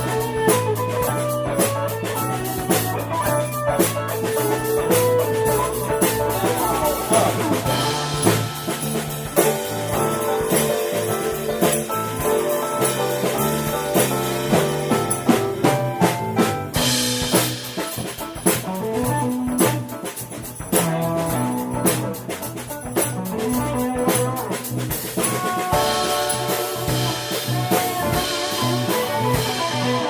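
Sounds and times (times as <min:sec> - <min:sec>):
drum kit: 0:00.0 - 0:30.0
electric bass: 0:00.0 - 0:30.0
guitar: 0:00.0 - 0:30.0
keyboards: 0:00.0 - 0:30.0.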